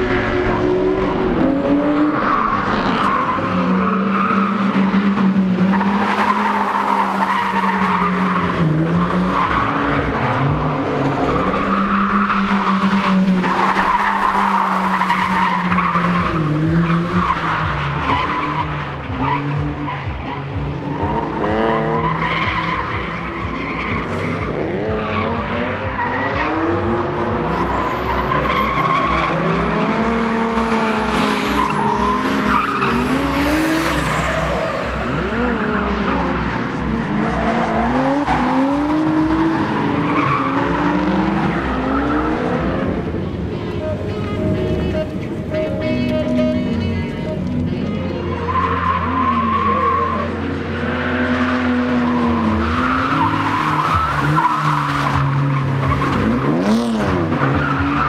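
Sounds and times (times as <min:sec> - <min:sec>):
car engine revving: 0:00.0 - 0:45.6, 0:48.2 - 0:58.0.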